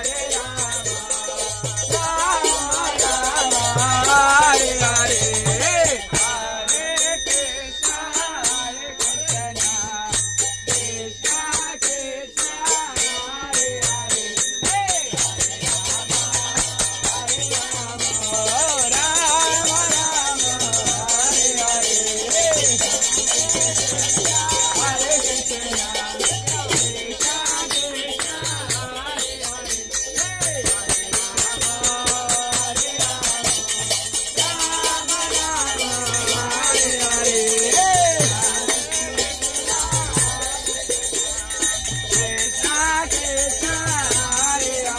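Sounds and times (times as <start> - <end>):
group singing: 0.0 - 44.9
hand cymbals struck: 0.0 - 44.9.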